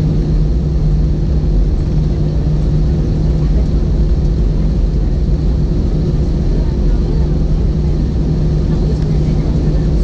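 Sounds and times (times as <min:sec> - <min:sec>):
aircraft cabin rumble: 0:00.0 - 0:10.0
engine hum: 0:00.0 - 0:10.0.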